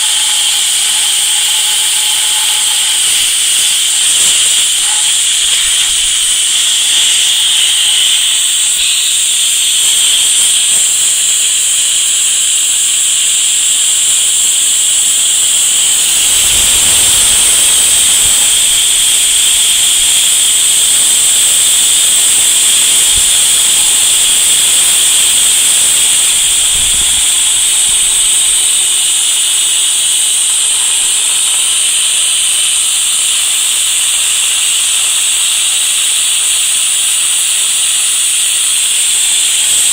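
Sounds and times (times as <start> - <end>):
spray gun loud steady hiss: 0.0 - 39.9.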